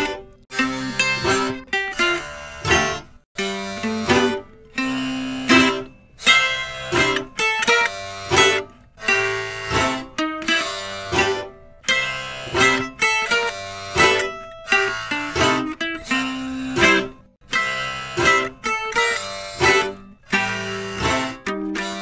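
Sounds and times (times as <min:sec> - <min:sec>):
plucked string instrument tune: 0:00.0 - 0:22.0.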